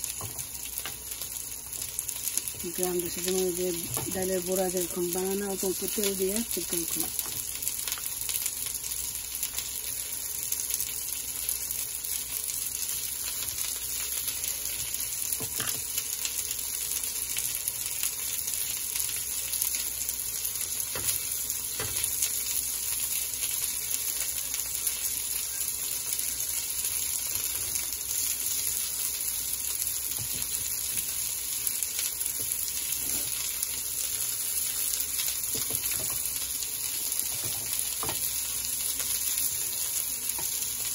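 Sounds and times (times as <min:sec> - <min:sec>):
meat sizzling in a pan: 0:00.0 - 0:40.9.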